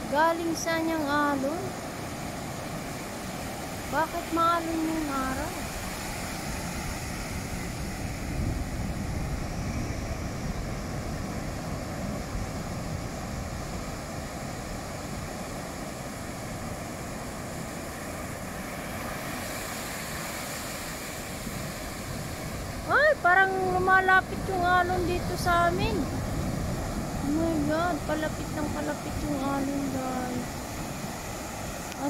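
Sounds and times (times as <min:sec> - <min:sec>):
ocean surf breaking: 0:00.0 - 0:32.0
wind on microphone: 0:00.0 - 0:32.0.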